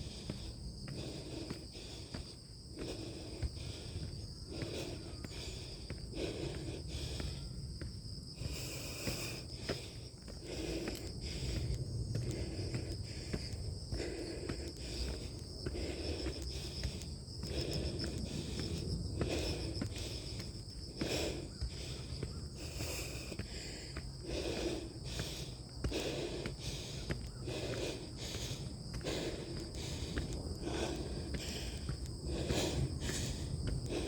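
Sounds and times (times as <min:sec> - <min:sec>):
footsteps on stairs: 0:00.0 - 0:34.0
insects chirring: 0:00.0 - 0:34.0
person breathing hard and groaning: 0:00.0 - 0:34.0.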